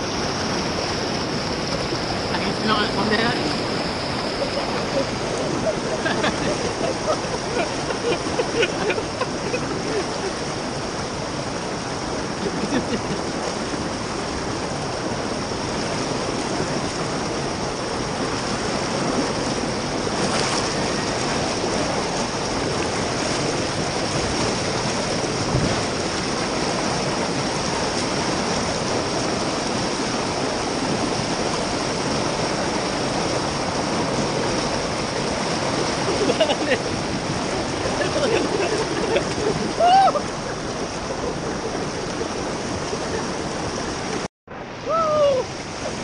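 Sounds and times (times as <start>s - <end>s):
wind noise over microphone: 0.0s - 46.0s.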